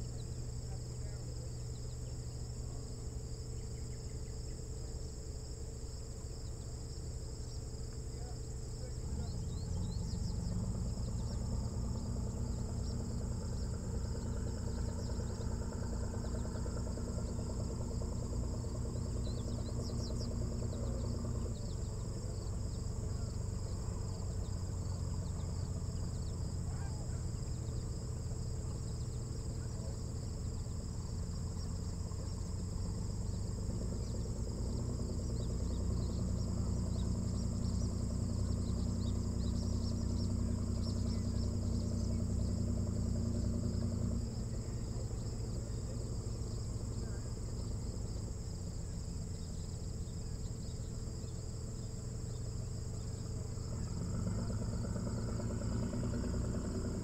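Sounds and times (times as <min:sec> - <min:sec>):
insect chorus buzzing: 0:00.0 - 0:57.0
low mechanical hum: 0:00.0 - 0:57.0.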